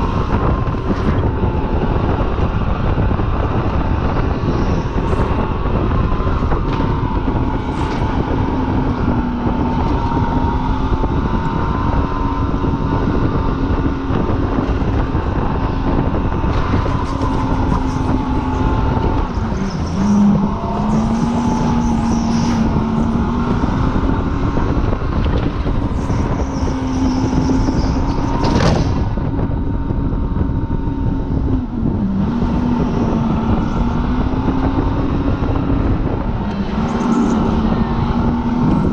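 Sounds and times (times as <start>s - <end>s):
engine at high revs: 0.0s - 38.9s
wind rush on microphone: 0.0s - 38.9s.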